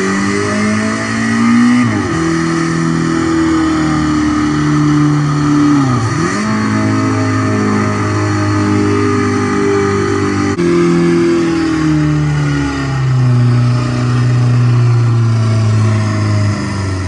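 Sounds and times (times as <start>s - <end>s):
simulated engine sound through speakers: 0.0s - 17.0s.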